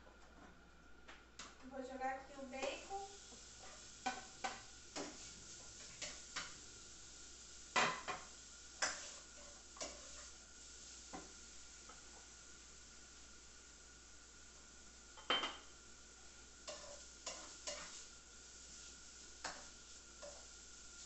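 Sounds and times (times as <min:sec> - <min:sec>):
bacon sizzling in a frying pan: 0:02.3 - 0:21.0.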